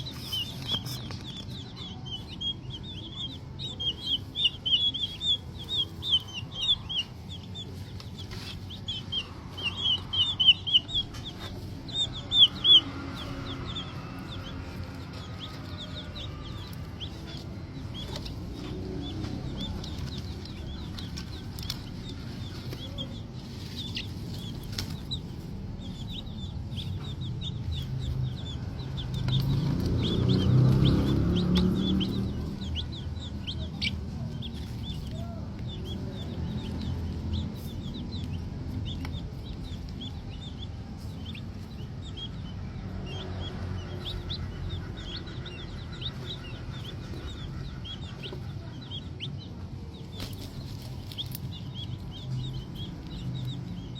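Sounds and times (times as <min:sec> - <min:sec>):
chicks peeping: 0:00.0 - 0:53.9.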